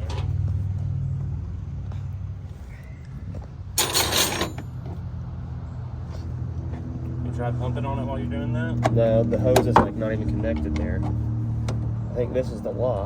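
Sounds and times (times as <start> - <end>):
low engine hum: 0.0 - 3.8, 4.5 - 13.0.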